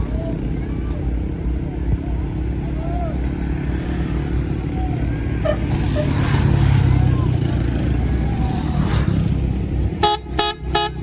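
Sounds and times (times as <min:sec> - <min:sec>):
bus engines rumbling: 0:00.0 - 0:11.0.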